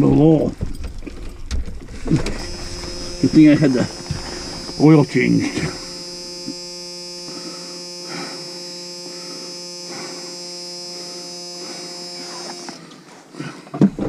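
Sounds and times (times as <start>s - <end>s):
starter motor cranking engine: 1.0s - 13.0s.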